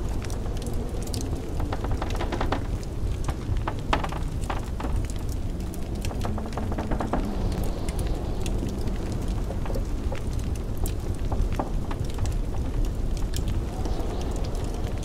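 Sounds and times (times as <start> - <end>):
blizzard wind rumble: 0.0 - 15.0
wood fire crackling: 0.0 - 15.0.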